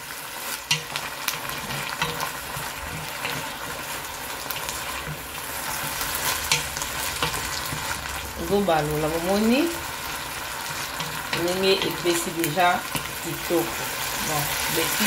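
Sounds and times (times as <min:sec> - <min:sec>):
vegetables sizzling in oil: 0:00.0 - 0:15.0
wooden spoon scraping a pot: 0:00.4 - 0:15.0.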